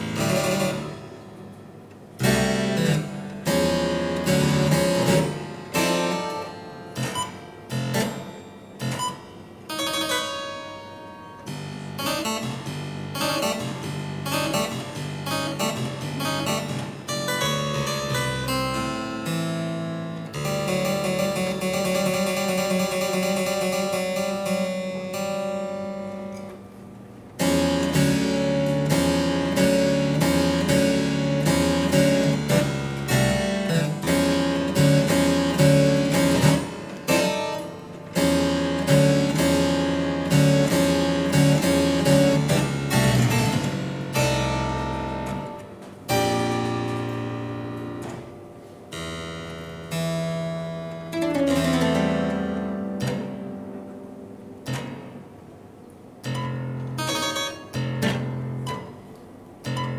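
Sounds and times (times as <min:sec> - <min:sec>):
harpsichord playing: 0:00.0 - 0:26.8, 0:27.4 - 0:59.9.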